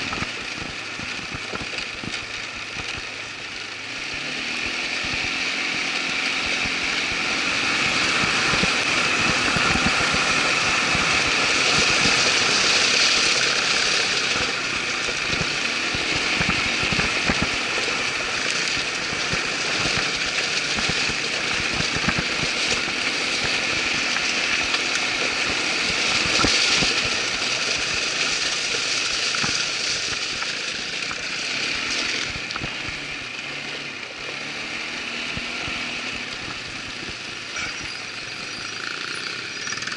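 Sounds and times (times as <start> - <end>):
quad bike engine: 0.0 - 39.9.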